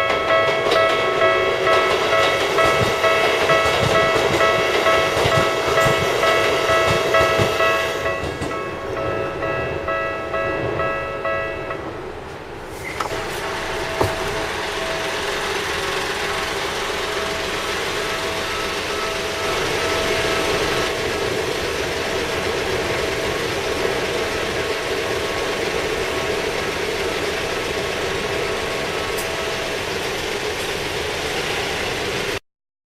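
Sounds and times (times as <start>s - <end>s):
road traffic noise: 0.0s - 32.4s.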